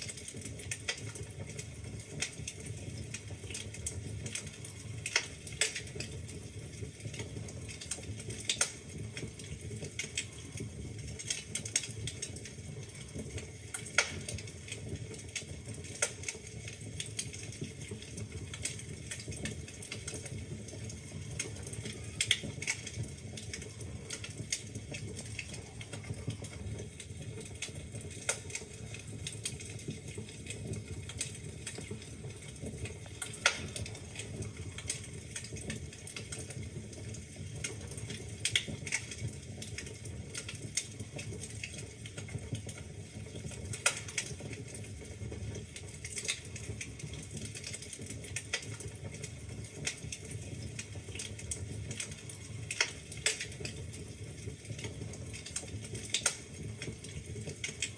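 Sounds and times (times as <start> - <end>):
fire crackling and popping: 0.0 - 57.9
fire flames rumbling: 0.0 - 57.9.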